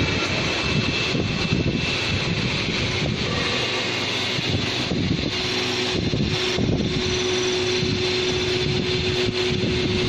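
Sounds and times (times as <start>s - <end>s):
oil press machine humming: 0.0s - 10.0s.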